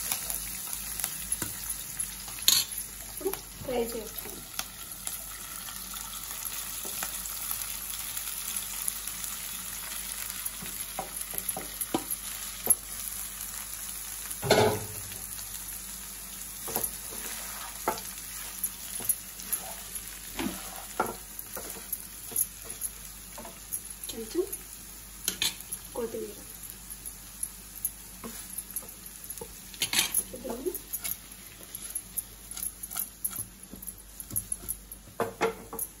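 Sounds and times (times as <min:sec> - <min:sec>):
rice sizzling in a pan: 0:00.0 - 0:36.0.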